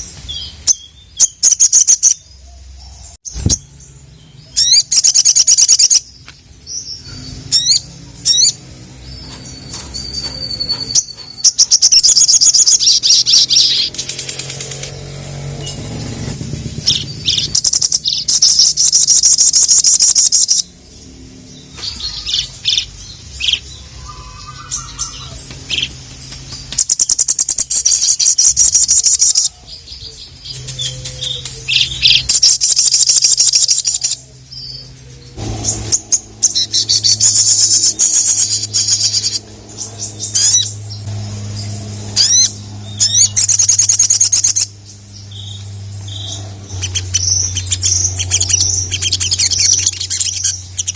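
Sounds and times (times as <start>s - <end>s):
bird chirping trills: 0.0s - 50.9s.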